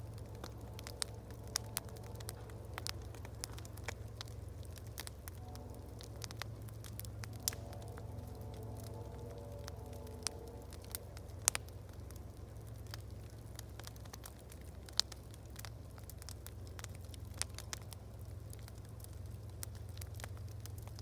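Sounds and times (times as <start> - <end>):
low steady rumble: 0.0 - 21.0
wood fire crackling and popping: 0.0 - 21.0.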